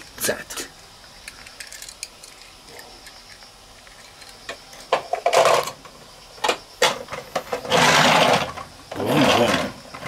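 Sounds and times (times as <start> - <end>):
toy car clattering into plastic truck: 1.2 - 10.0.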